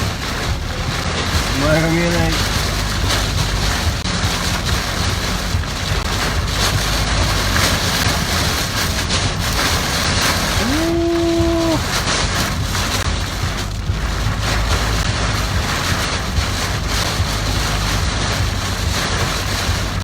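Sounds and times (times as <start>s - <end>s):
heavy rain hitting a car: 0.0s - 20.0s
tyre noise on wet road: 0.0s - 20.0s.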